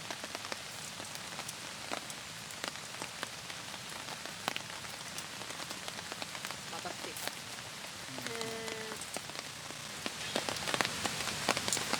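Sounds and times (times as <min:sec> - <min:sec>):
steady rain: 0:00.0 - 0:11.9.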